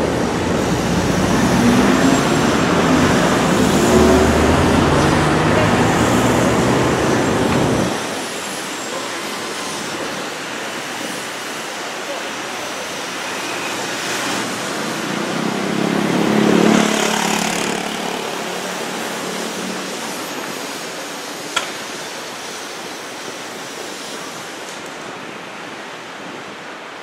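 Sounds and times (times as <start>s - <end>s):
electric train running: 0.0s - 24.8s
city street hiss: 0.0s - 27.0s.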